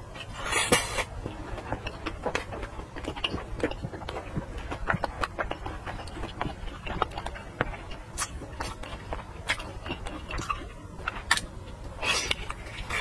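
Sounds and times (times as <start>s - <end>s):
chewing with wet mouth smacks: 0.7s - 13.0s.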